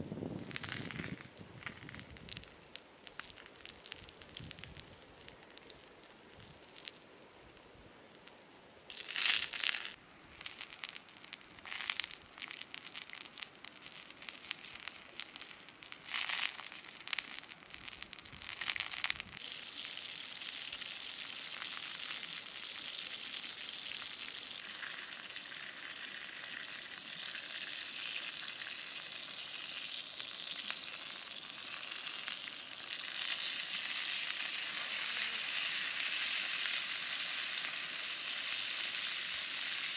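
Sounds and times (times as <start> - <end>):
frog sizzling on hot stone: 0.4 - 39.9.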